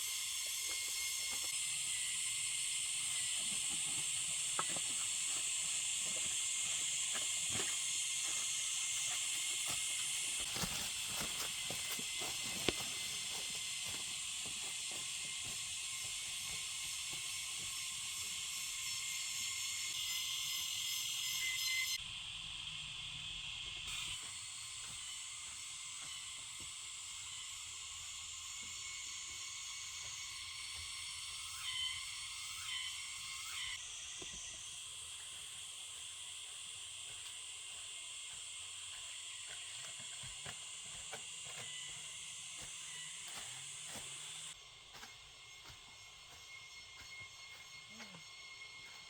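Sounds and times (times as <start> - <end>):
high-pitched forest hiss: 0.0 - 49.0
insect chorus: 0.0 - 49.0.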